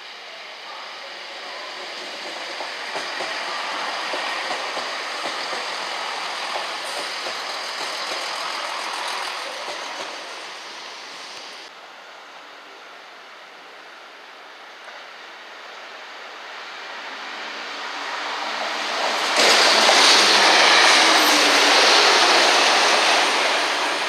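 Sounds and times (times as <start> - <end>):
train passing at speed: 0.0 - 24.0.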